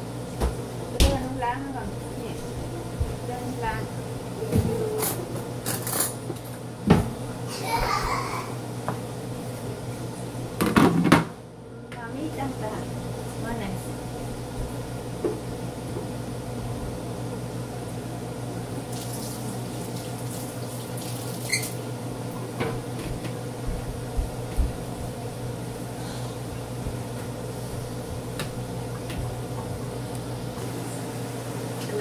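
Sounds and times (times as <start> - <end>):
kitchen appliance humming: 0.0 - 32.0.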